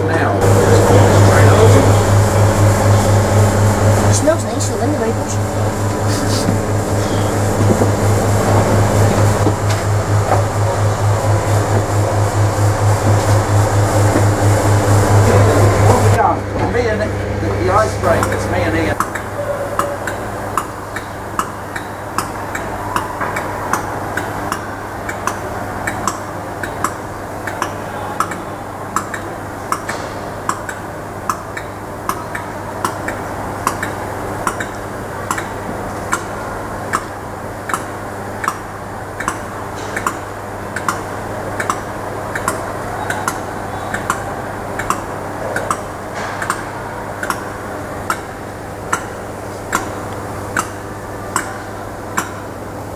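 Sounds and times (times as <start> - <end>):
electric locomotive humming: 0.0 - 52.9.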